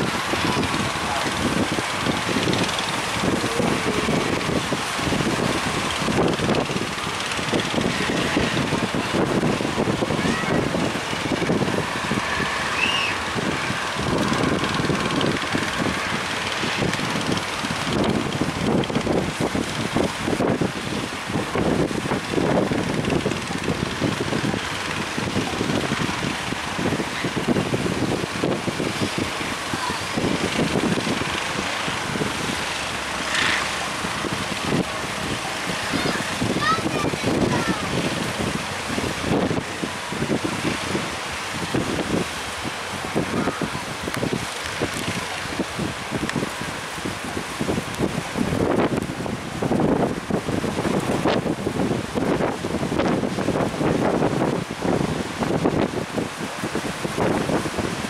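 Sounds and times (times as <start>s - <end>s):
sea rushing: 0.0s - 58.0s
wind buffeting microphone: 0.0s - 58.0s.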